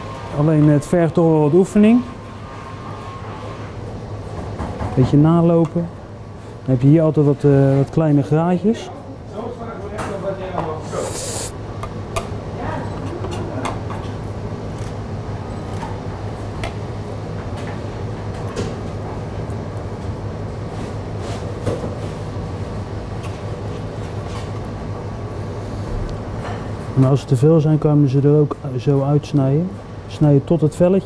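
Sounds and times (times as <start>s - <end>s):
kitchen ventilation hum: 0.0s - 31.0s.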